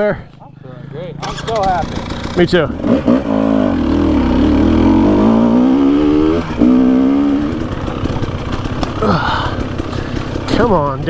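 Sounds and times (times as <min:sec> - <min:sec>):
dirt bike engine revving: 0:01.0 - 0:11.0.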